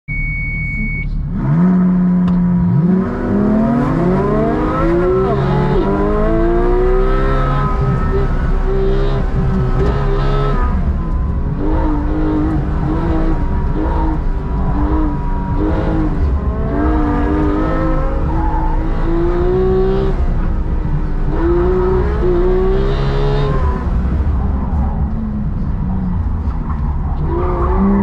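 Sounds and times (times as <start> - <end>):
car engine revving: 1.2 - 28.0.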